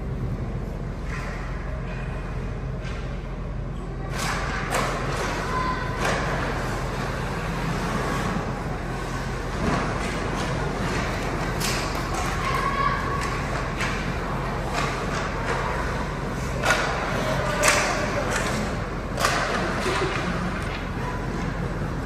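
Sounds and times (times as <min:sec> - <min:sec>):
steady low hum: 0:00.0 - 0:22.0
hockey sticks and puck clacking: 0:04.1 - 0:22.0.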